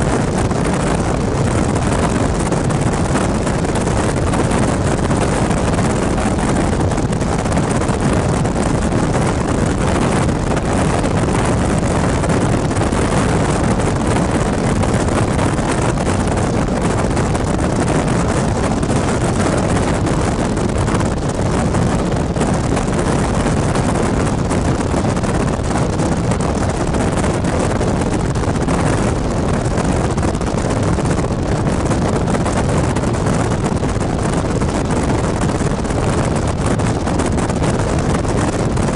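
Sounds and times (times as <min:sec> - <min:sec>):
car tyre and road noise: 0:00.0 - 0:38.9
wind rushing over microphone: 0:00.0 - 0:38.9.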